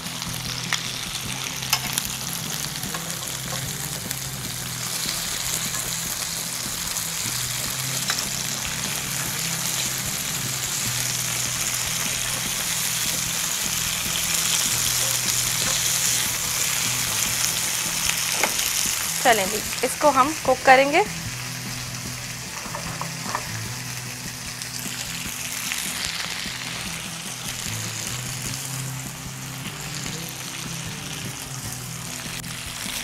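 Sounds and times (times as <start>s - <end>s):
onions frying in a hot pan: 0.0s - 33.0s.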